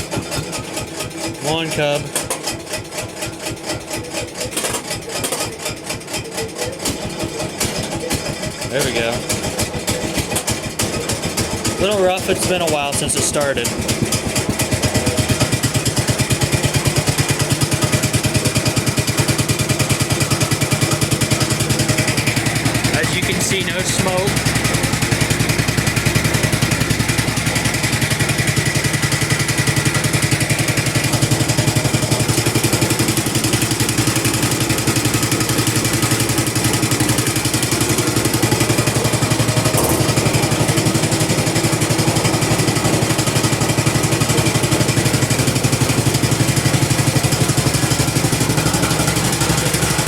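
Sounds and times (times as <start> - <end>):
garden tractor engine running: 0.0 - 50.0.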